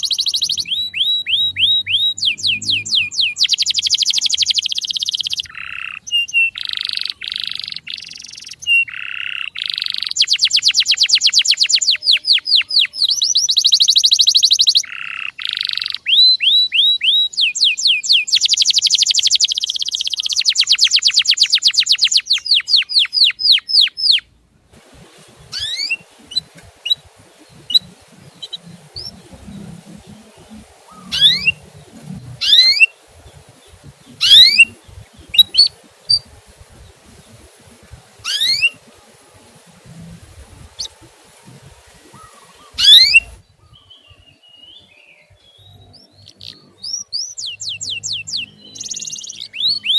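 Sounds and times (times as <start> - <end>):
canary trilling song: 0.0 - 24.4, 25.3 - 41.1, 42.0 - 49.9
rising bird chirps: 0.0 - 24.4, 25.0 - 49.9.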